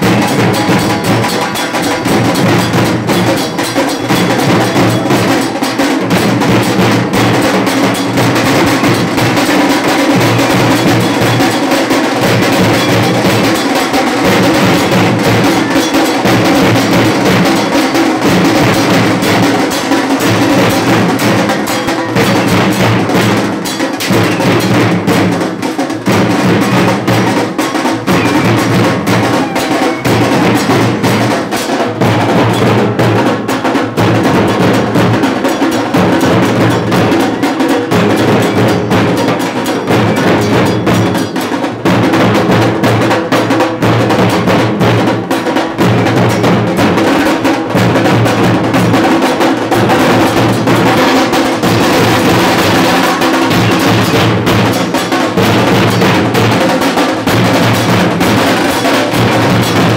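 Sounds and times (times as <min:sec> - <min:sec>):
drum band playing fast beat: 0:00.0 - 0:59.9.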